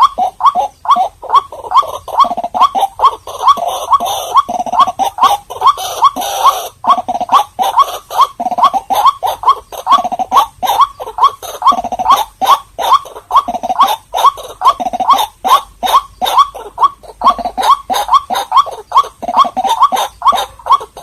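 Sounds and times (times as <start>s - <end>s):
waterhen croaking: 0.0s - 21.0s.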